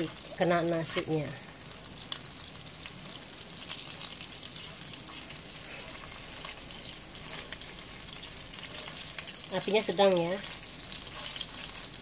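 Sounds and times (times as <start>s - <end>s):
butter sizzling in a frying pan: 0.0s - 12.0s.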